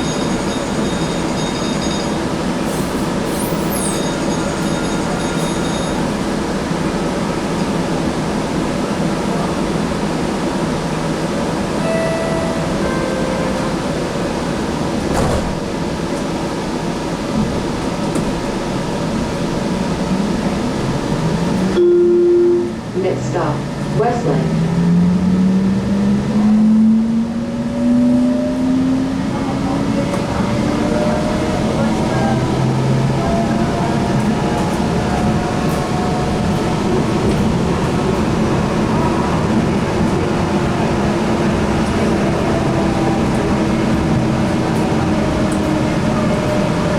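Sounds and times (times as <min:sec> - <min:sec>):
light rail car interior noise: 0:00.0 - 0:46.9.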